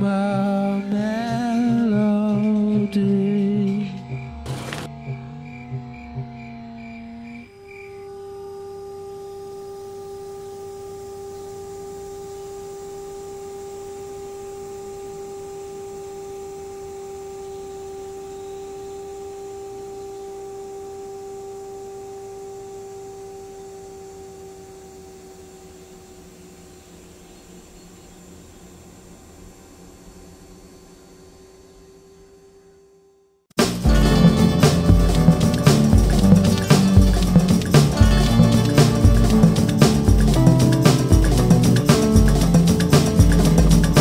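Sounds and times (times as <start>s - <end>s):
pure sustained tone: 0.0s - 44.0s.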